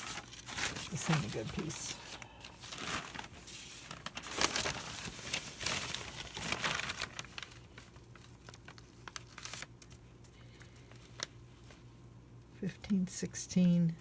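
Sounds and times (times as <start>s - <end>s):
packing paper crinkling: 0.0s - 11.9s.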